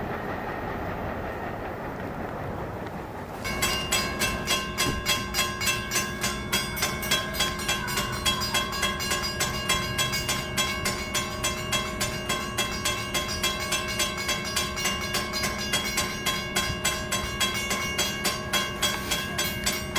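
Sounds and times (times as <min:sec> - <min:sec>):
train rumble: 0:00.0 - 0:19.9
railroad crossing bell ringing: 0:03.3 - 0:19.9.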